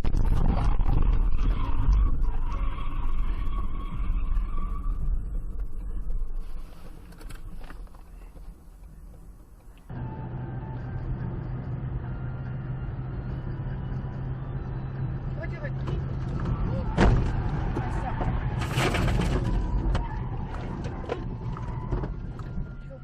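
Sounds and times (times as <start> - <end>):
car engine rumble: 0.0 - 23.0
road noise: 0.0 - 23.0.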